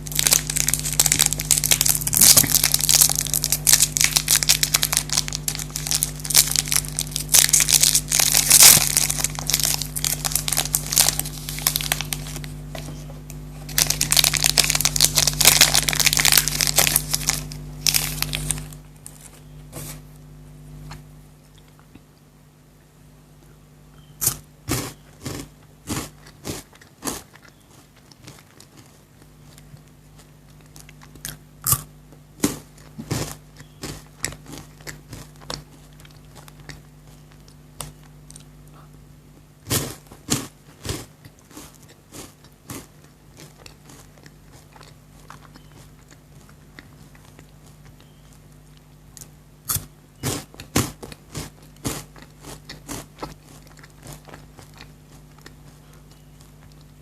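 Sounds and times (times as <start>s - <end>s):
crunchy chocolate crunches: 0.0s - 12.9s, 13.6s - 20.0s, 24.2s - 57.0s
quiet chewing: 0.1s - 22.3s, 23.4s - 57.0s.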